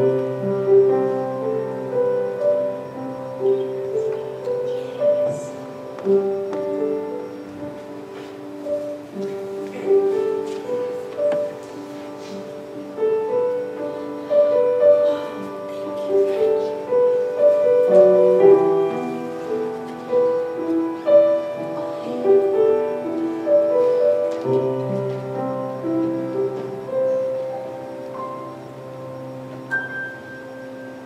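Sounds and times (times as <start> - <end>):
slow piano melody: 0.0 - 31.0.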